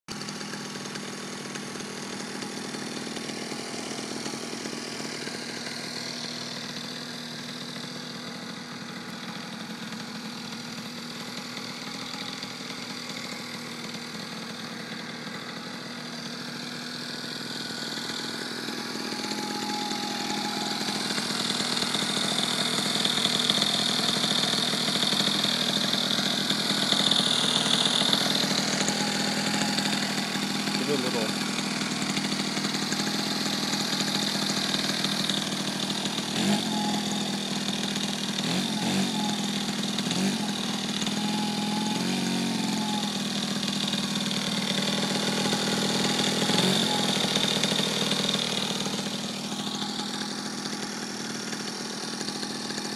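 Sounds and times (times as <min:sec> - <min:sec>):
two-stroke engine running: 0:00.0 - 0:52.9.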